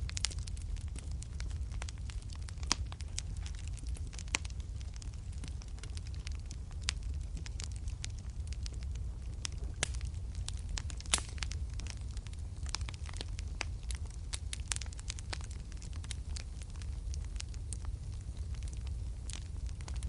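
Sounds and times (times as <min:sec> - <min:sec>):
low rumble: 0:00.0 - 0:20.0
wood fire crackling and popping: 0:00.0 - 0:20.0.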